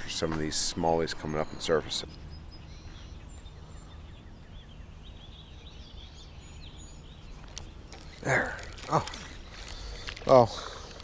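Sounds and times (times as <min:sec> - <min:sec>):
distant birds chirping: 0:00.0 - 0:11.0
low outdoor hush: 0:00.0 - 0:11.0.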